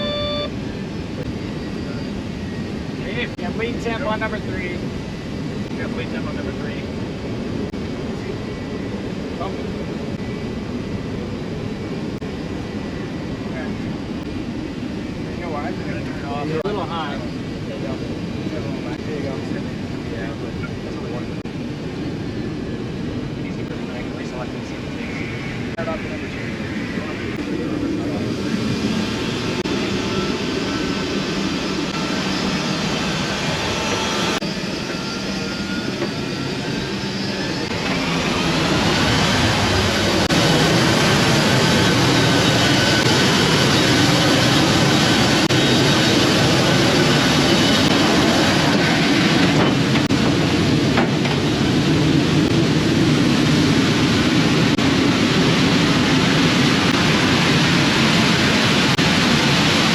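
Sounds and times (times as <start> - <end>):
jet engines running: 0.0 - 59.9
turbine whine: 0.0 - 59.9.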